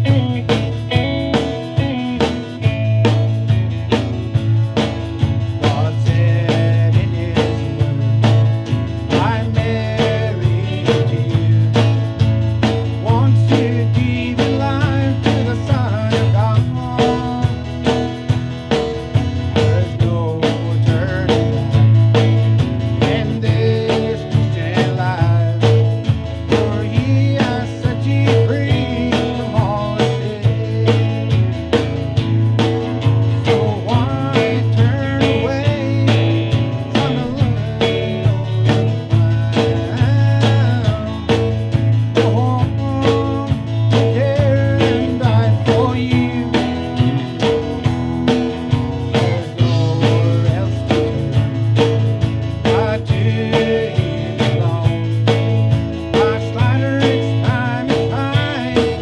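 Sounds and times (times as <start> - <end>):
man singing: 0.0 - 3.6, 5.5 - 59.0
acoustic guitar: 0.0 - 59.0
bass guitar: 0.0 - 59.0
drums: 0.0 - 59.0.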